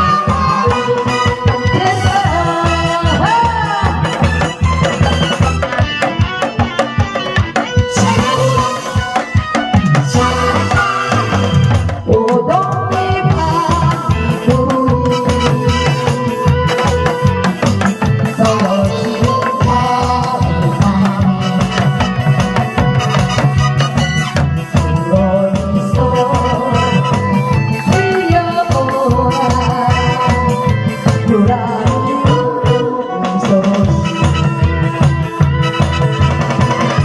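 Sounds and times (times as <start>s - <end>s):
disco-style backing track: 0.0s - 37.0s
drums playing fast beat: 0.0s - 37.0s.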